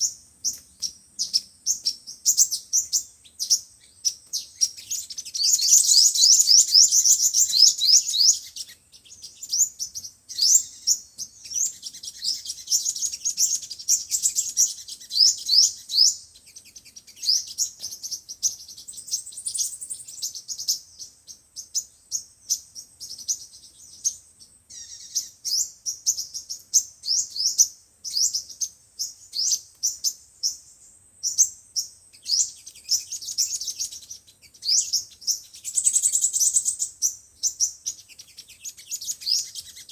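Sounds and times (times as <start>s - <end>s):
sunbird chirps and trills: 0.0s - 39.9s.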